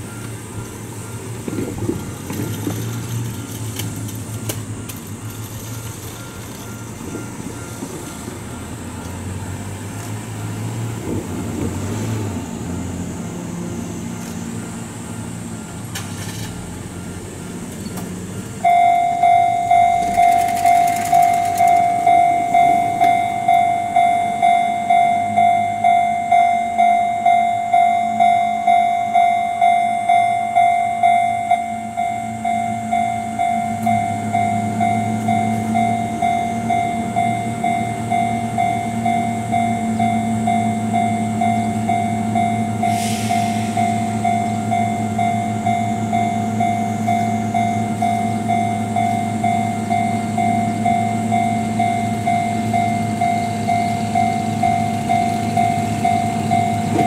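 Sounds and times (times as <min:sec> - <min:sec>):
level-crossing warning bell: 0:00.0 - 0:10.1, 0:16.7 - 0:57.0
electric train rumbling: 0:00.0 - 0:57.0.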